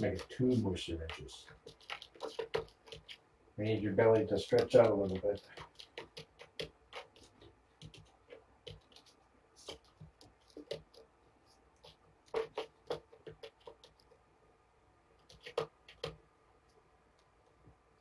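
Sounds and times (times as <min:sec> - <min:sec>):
soft clicks and scratches: 0:00.0 - 0:14.3, 0:15.1 - 0:18.0.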